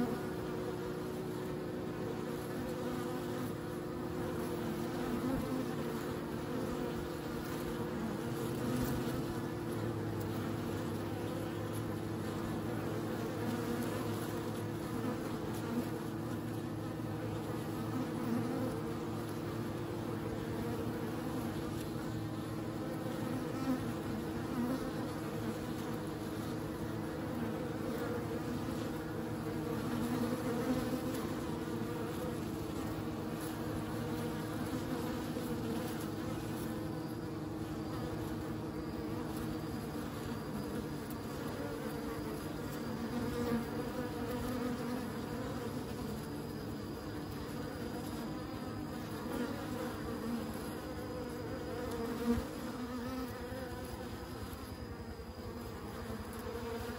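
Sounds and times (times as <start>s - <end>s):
honeybees buzzing: 0.0s - 56.9s.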